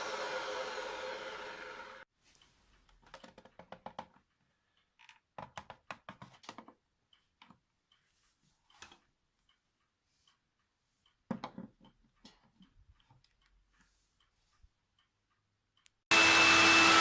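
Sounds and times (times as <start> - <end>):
clicks taps and light rattles: 2.4 - 16.0.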